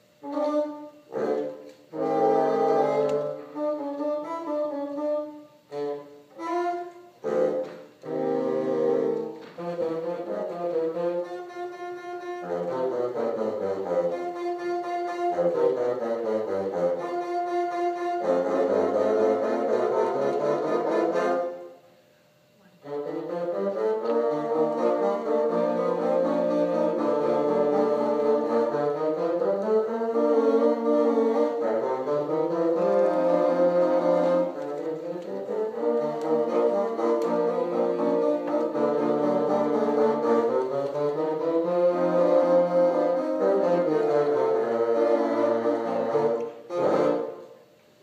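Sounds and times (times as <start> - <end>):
bassoon ensemble playing: 0.0 - 22.0, 22.6 - 47.8.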